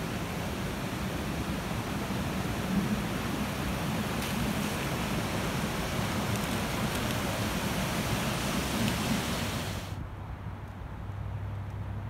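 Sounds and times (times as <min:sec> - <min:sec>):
water rushing over rocks: 0:00.0 - 0:10.0.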